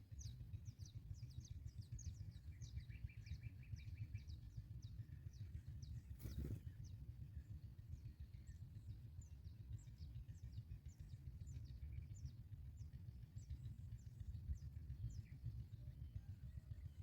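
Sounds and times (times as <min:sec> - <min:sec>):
small birds chirping faintly: 0:00.0 - 0:17.0.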